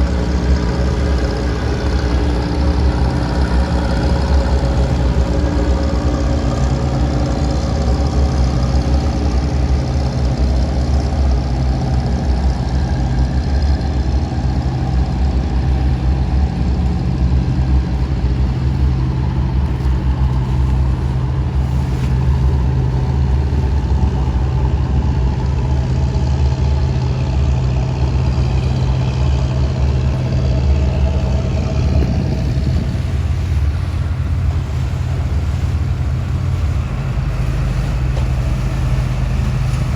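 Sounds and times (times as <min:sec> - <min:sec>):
boat diesel engine droning: 0:00.0 - 0:39.9.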